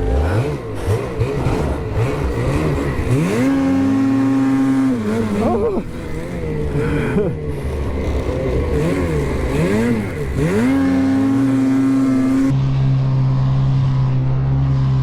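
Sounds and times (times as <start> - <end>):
snowmobile engine revving: 0.0 - 12.6.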